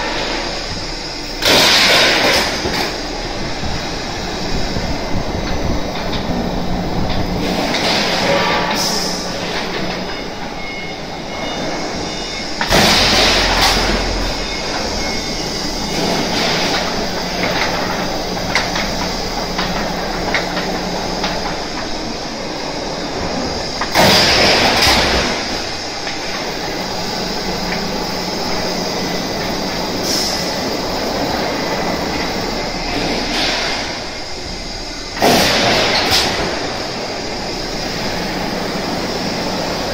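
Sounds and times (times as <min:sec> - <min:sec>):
roll forming machine running: 0:00.0 - 0:39.9.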